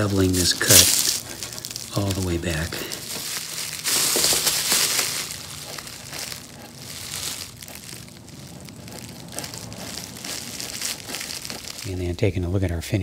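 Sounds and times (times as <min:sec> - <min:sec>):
plastic sheet crinkling: 0:00.0 - 0:12.2.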